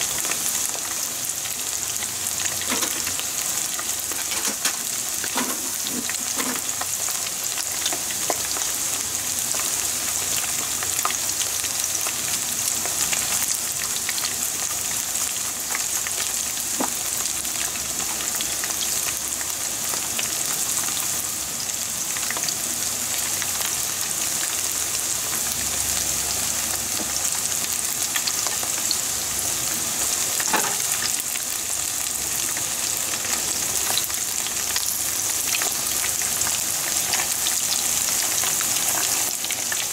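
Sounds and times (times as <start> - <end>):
oil sizzling and popping: 0.0 - 39.9.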